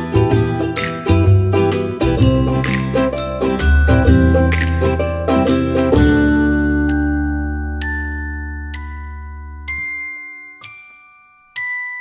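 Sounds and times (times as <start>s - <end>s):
steady bass line: 0.0s - 10.0s
bright plucked tune: 0.0s - 12.0s.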